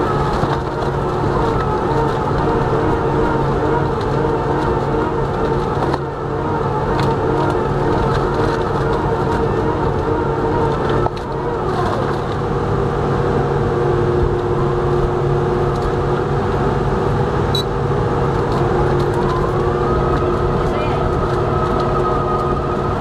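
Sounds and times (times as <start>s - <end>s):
falling whine: 0.0s - 23.0s
log shredder droning: 0.0s - 23.0s.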